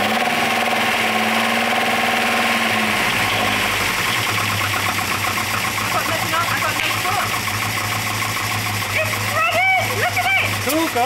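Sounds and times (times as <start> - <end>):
engine running unevenly: 0.0 - 11.0
starter motor whine: 0.0 - 11.0.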